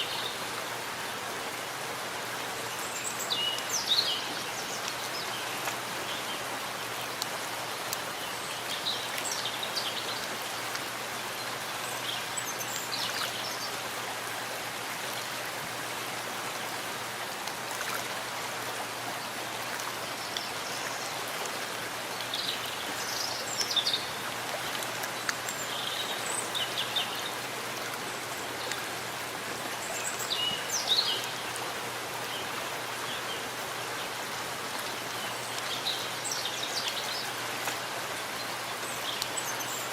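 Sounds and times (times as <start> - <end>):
steady rain in forest: 0.0 - 39.9.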